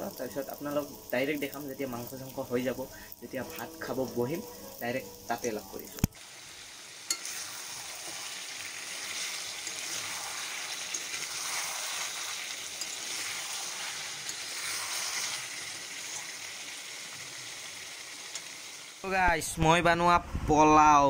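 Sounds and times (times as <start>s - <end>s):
curry sizzling in a pan: 0.0s - 19.1s.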